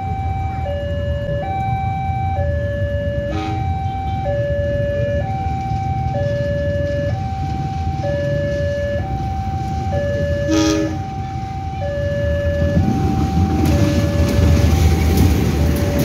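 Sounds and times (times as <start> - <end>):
two-tone crossing alarm: 0.0 - 16.0
train rumbling past: 2.7 - 16.0.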